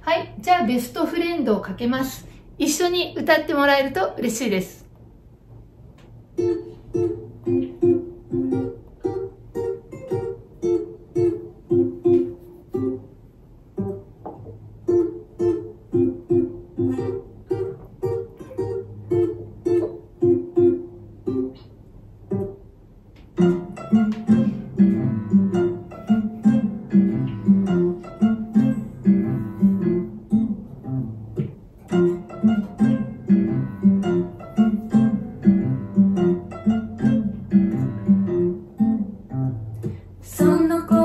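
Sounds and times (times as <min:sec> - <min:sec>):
plucked string instrument melody: 0:06.3 - 0:41.0.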